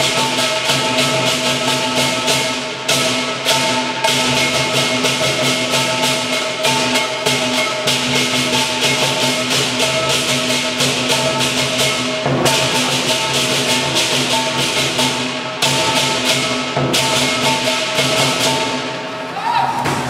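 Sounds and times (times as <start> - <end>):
large drum beaten fast: 0.0 - 19.0
cymbals clashing: 0.0 - 20.0.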